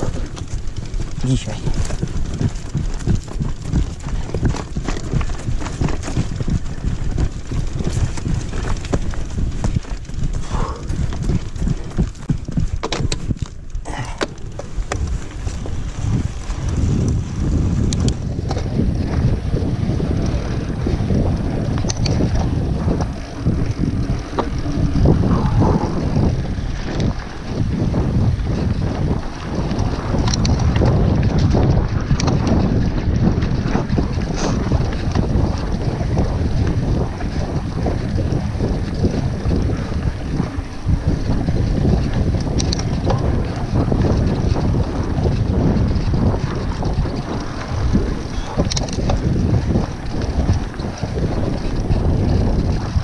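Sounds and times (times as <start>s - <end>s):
bike rattles and clicks: 0.0s - 53.0s
low rumble of bike on trail: 0.0s - 53.0s
wind buffeting microphone: 0.0s - 53.0s.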